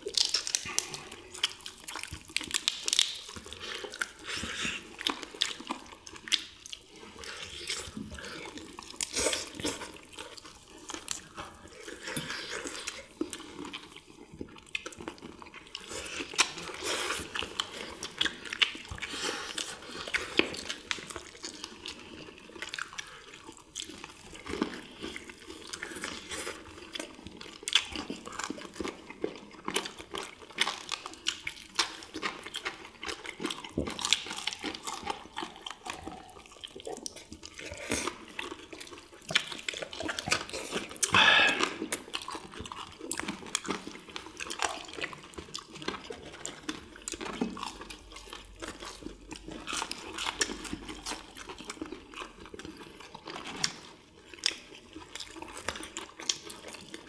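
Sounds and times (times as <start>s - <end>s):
people chewing crispy food: 0.0s - 57.0s.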